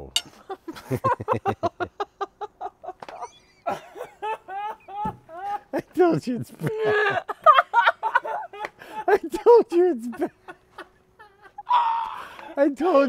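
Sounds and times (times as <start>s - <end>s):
people laughing: 0.3s - 12.5s.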